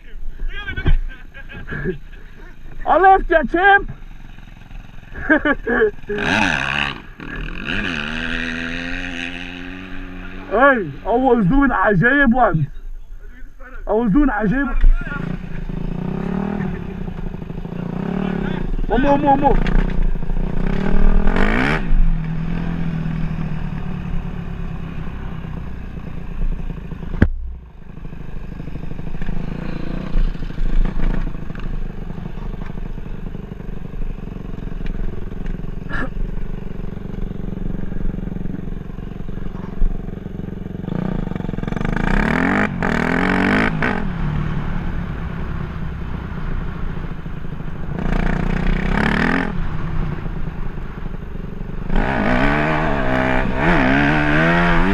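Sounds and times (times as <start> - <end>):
dirt bike engine revving: 0.8 - 12.5, 13.9 - 54.9.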